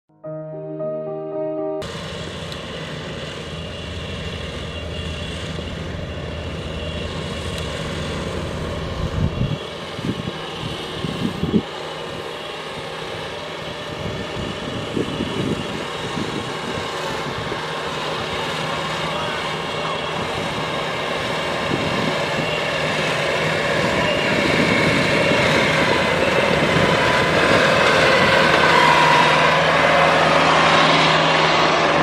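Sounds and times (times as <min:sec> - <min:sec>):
diesel engine running: 0:01.8 - 0:32.0.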